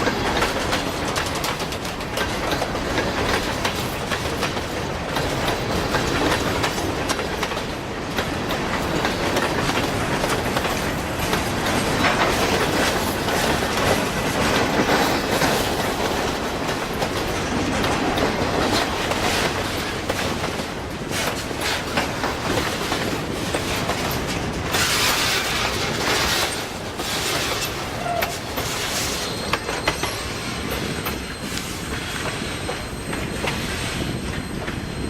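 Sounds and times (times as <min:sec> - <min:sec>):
freight train wheels clickety-clack: 0:00.0 - 0:35.0.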